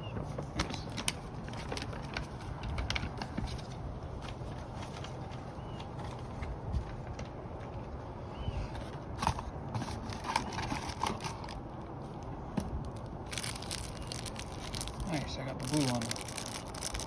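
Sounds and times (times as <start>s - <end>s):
cardboard and plastic rustling: 0.0s - 7.6s, 8.7s - 17.0s.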